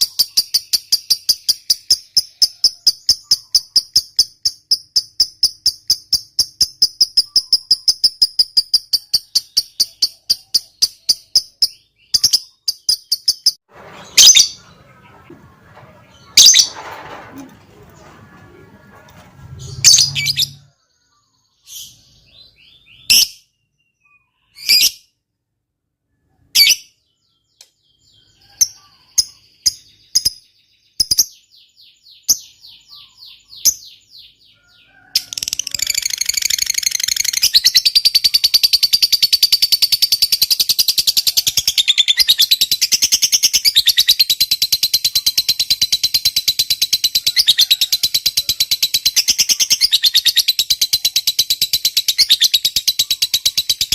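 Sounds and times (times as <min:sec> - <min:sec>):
lovebird chirping and chattering: 0:00.0 - 0:15.3, 0:16.0 - 0:16.8, 0:19.5 - 0:20.7, 0:24.0 - 0:25.1, 0:26.6 - 0:31.5, 0:32.1 - 0:34.4, 0:35.3 - 0:53.9.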